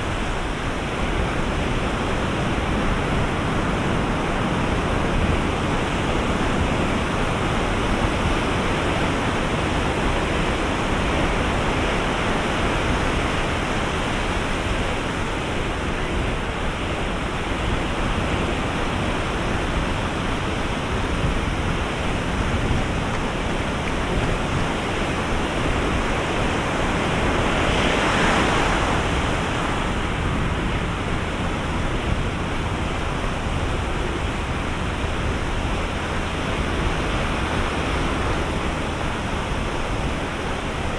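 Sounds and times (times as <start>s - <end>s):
surf breaking on beach: 0.0s - 40.9s.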